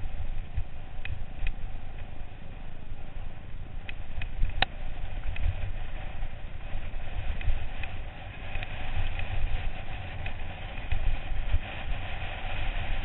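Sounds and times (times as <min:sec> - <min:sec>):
bike rattling: 0:00.0 - 0:13.0
wind buffeting microphone: 0:00.0 - 0:13.0.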